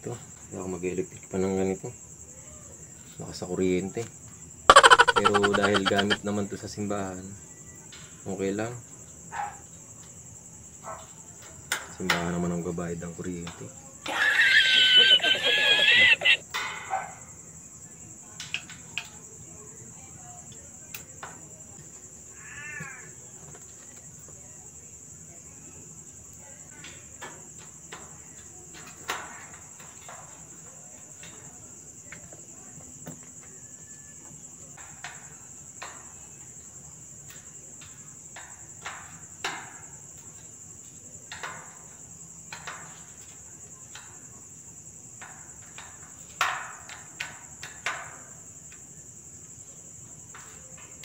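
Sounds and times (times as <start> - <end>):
high cricket trill: 0.0 - 51.0.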